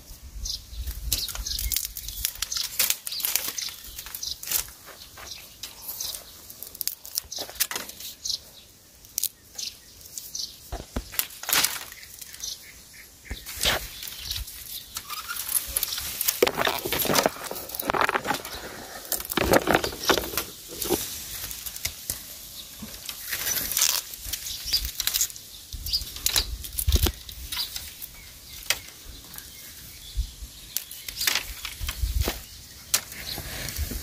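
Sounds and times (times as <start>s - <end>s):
bamboo stems rustling and snapping: 0.8s - 34.0s.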